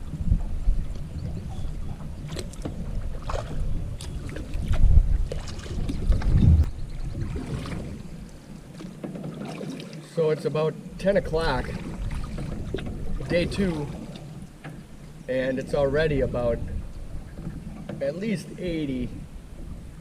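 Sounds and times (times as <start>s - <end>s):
wind rumble on microphone: 0.0s - 9.6s, 10.9s - 20.0s
paddle splashing in water: 0.0s - 10.2s, 11.2s - 15.8s, 16.6s - 18.2s.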